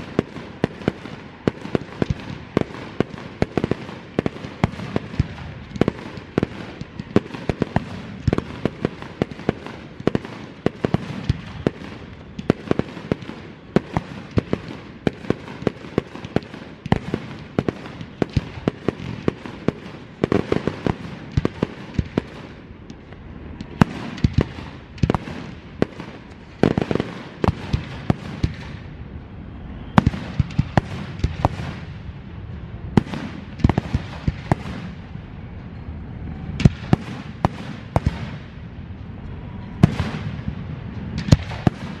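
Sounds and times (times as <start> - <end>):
fireworks bangs: 0.0 - 42.0
fireworks crackle and hiss: 0.0 - 42.0.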